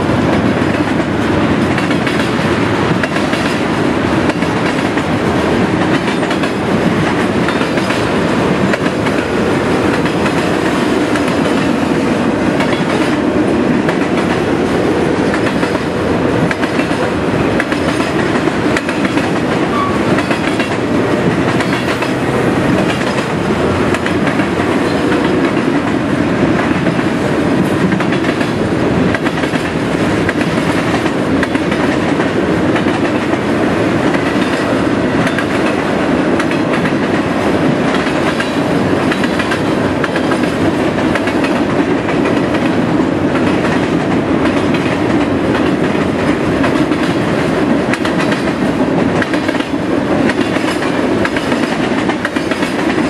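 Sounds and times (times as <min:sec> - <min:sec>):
train wheels clicking over rail joints: 0:00.0 - 0:53.0.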